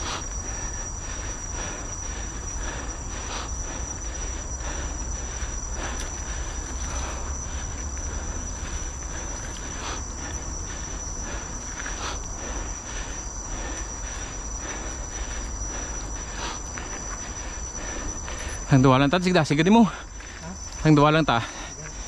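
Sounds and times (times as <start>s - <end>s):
bike tyres on dirt trail: 0.0s - 22.0s
high-pitched insect drone: 0.0s - 22.0s.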